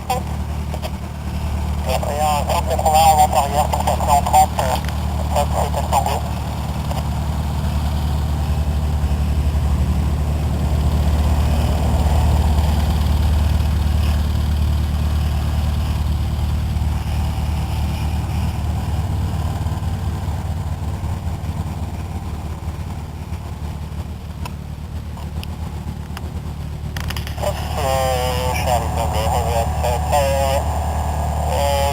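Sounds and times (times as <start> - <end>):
propeller plane engine droning: 0.0 - 31.9.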